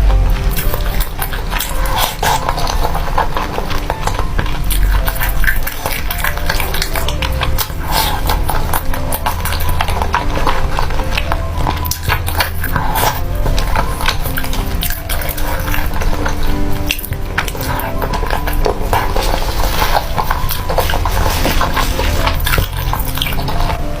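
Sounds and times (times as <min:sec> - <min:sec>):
slurping noodles: 0:00.0 - 0:24.0
wet mouth clicks: 0:00.4 - 0:23.8.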